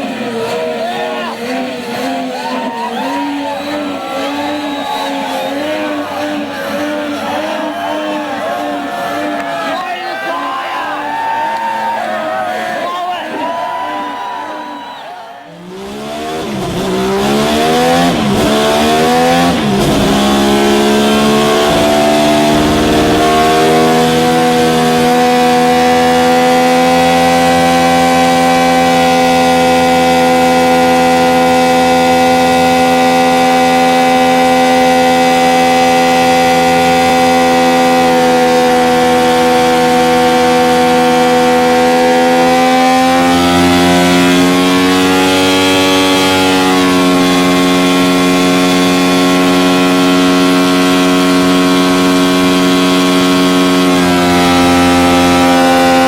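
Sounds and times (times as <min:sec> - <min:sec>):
rotary engine revving: 0:00.0 - 0:56.0.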